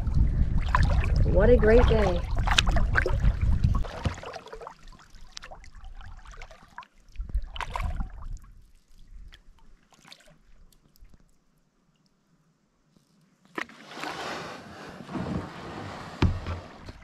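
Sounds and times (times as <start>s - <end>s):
paddle splashing water: 0.0s - 11.3s, 13.5s - 17.0s.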